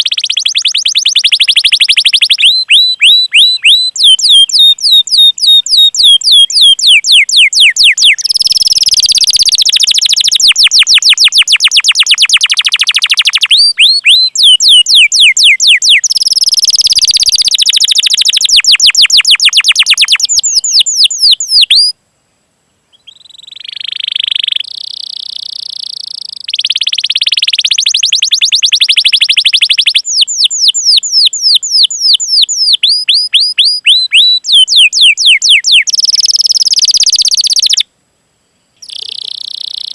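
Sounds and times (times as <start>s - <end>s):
canary singing: 0.0s - 22.0s, 22.9s - 37.8s, 38.8s - 39.9s.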